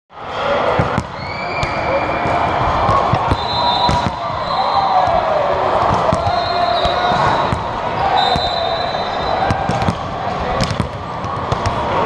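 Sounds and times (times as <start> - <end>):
chatter of players and spectators: 0.1 - 12.0
volleyballs smacking on gym floor: 0.8 - 4.4, 5.0 - 8.6, 9.4 - 12.0.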